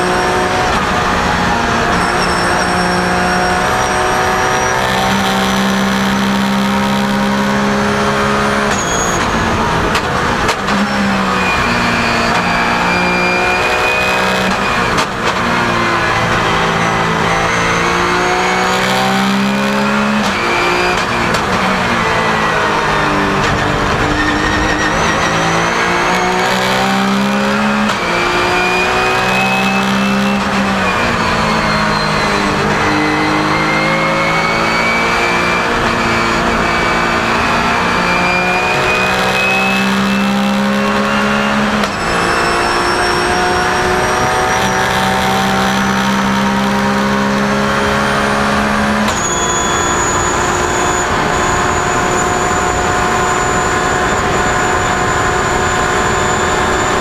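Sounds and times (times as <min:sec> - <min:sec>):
racing engine at full throttle: 0:00.0 - 0:57.0.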